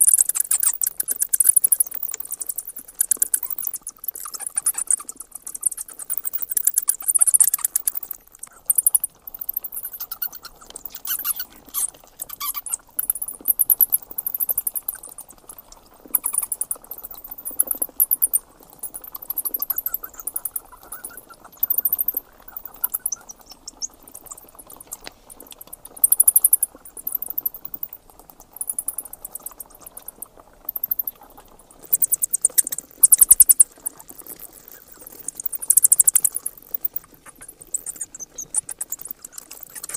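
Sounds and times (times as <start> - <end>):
bats clicking and chittering: 0.0 - 39.9.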